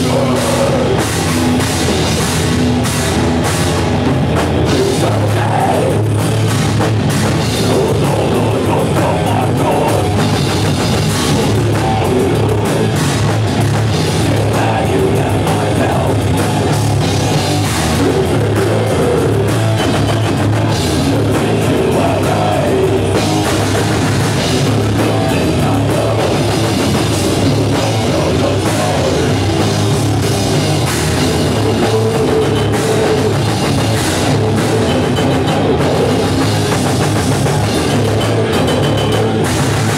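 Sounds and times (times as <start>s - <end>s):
bass guitar: 0.0s - 39.9s
distorted guitars: 0.0s - 39.9s
pounding drums: 0.0s - 39.9s.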